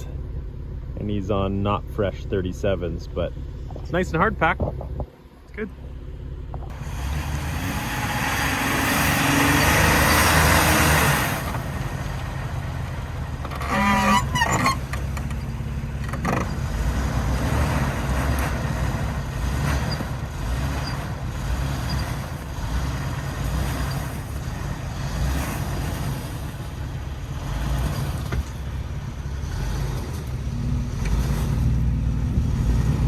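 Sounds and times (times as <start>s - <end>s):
car engine running at low revs: 0.0s - 33.0s.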